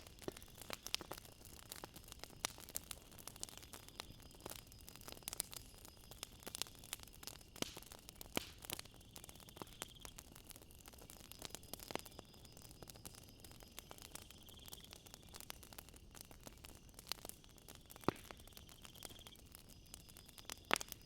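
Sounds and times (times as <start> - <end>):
night insects droning: 0.0 - 21.0
wood fire crackling: 0.0 - 21.0.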